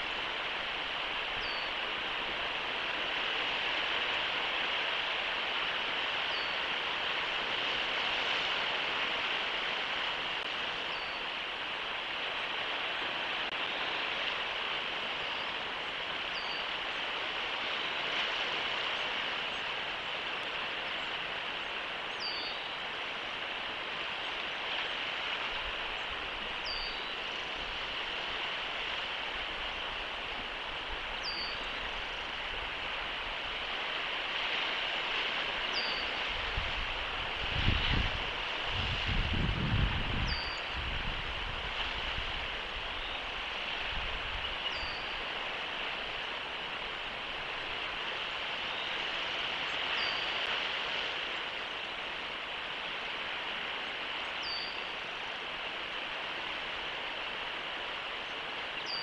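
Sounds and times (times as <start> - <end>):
wind: 0.0 - 59.0.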